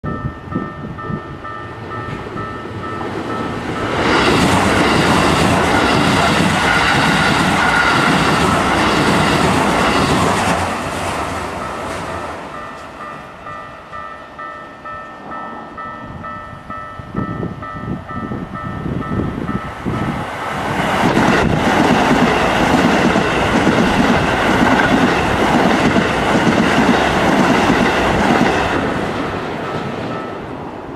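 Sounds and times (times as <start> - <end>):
level crossing warning bell: 0.0 - 10.2, 11.1 - 20.4, 21.3 - 30.7
electric train passing: 0.1 - 30.9.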